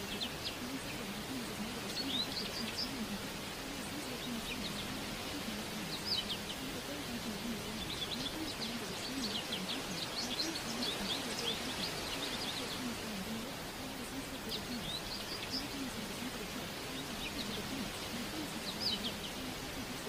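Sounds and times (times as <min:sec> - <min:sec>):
birds chirping: 0:00.0 - 0:20.0
faint low voice: 0:00.0 - 0:20.0
steady background hiss: 0:00.0 - 0:20.0.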